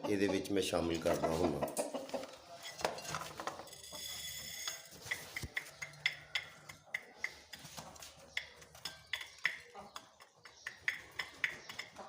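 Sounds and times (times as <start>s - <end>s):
chickens pecking at grain: 0.0s - 12.0s.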